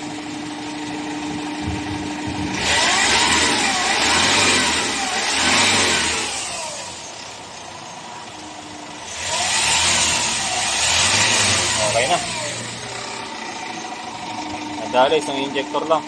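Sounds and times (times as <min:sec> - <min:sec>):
diesel engine revving and idling: 0:00.0 - 0:16.0.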